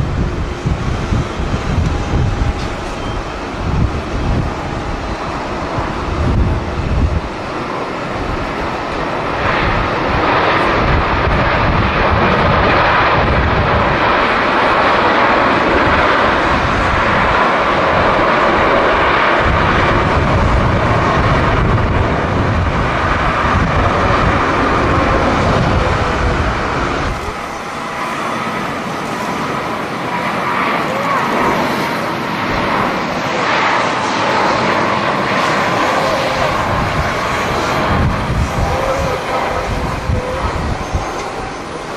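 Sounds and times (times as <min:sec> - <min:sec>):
jet airliner engine noise: 0:00.0 - 0:41.9
wind buffeting microphone: 0:00.0 - 0:41.9.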